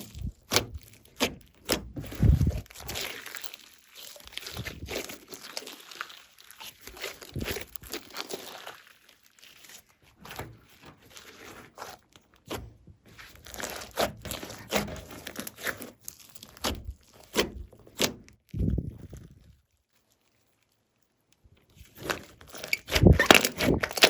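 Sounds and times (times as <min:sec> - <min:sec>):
slime popping and squelching: 0:00.0 - 0:19.4.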